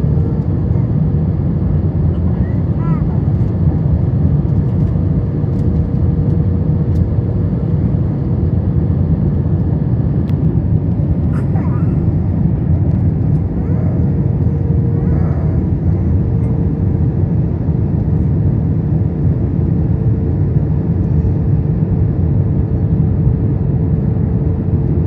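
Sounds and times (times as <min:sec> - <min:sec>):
aircraft cabin engine roar: 0:00.0 - 0:25.0.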